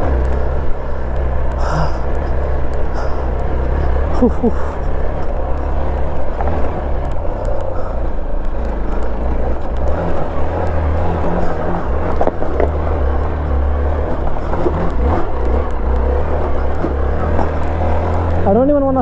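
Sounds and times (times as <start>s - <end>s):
motorcycle engine rumbling: 0.0s - 19.0s
stones ticking: 0.0s - 19.0s.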